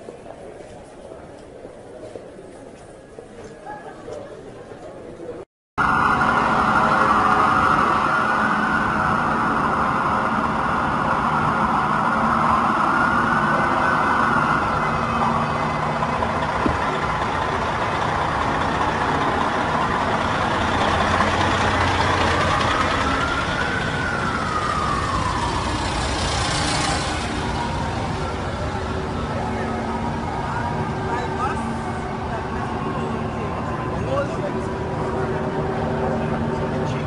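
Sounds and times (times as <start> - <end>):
street traffic: 0.0 - 37.0
emergency siren wailing: 5.8 - 37.0
heavy engines running: 5.8 - 37.0.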